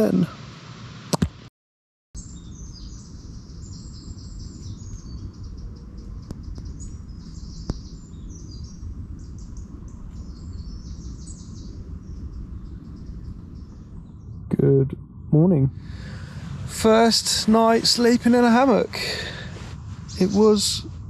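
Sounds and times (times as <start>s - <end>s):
songbirds chirping and singing: 2.2s - 14.6s, 15.8s - 21.0s
low rumble: 2.6s - 21.0s.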